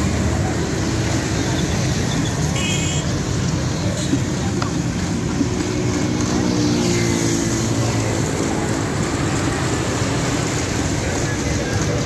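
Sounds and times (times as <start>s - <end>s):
road traffic noise: 0.0s - 12.0s
vehicle engine hum: 0.0s - 12.0s.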